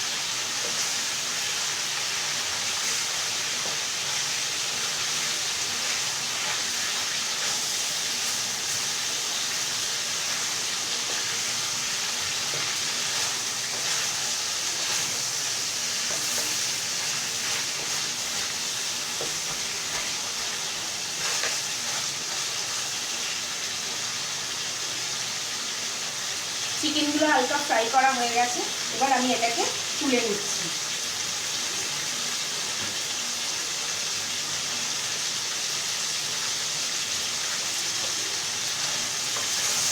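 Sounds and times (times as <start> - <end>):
chicken frying in oil: 0.0 - 39.9.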